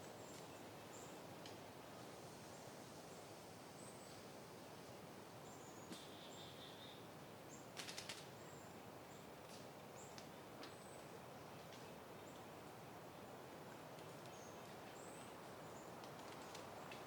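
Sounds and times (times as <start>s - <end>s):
soft wind: 0.0s - 17.0s.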